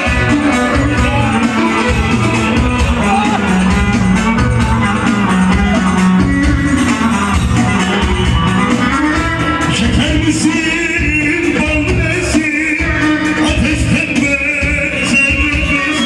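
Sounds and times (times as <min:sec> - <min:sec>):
live band playing folk song: 0:00.0 - 0:16.0.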